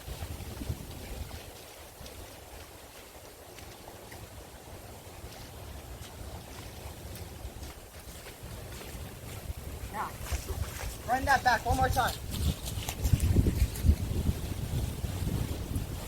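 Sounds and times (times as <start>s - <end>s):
wind buffeting microphone: 0.0s - 3.6s, 6.2s - 16.0s.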